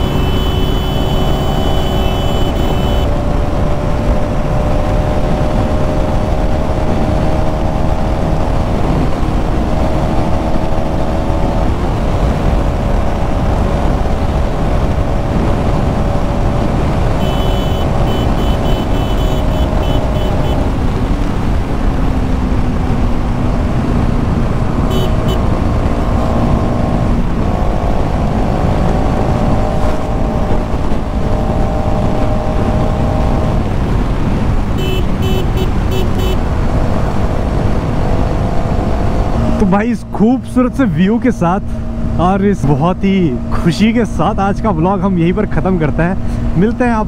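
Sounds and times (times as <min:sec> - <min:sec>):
motorcycle engine running: 0:00.0 - 0:37.8
wind rush: 0:00.0 - 0:40.5.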